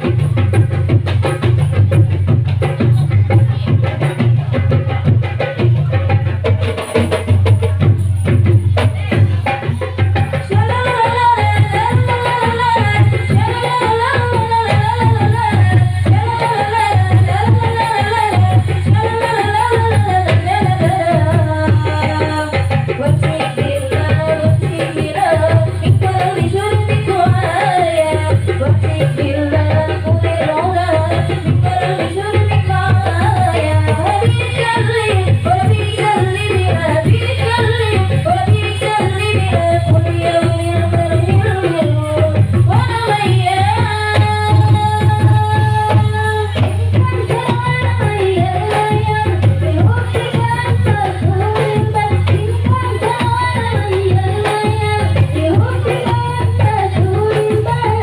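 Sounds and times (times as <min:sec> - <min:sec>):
hand drums beating rhythm: 0:00.0 - 0:58.0.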